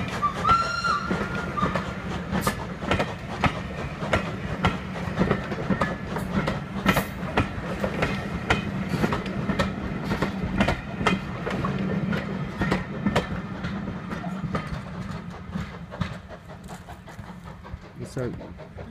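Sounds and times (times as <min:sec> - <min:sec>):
train rumble: 0:00.0 - 0:18.9
train wheels clicking over rail joints: 0:00.0 - 0:18.9.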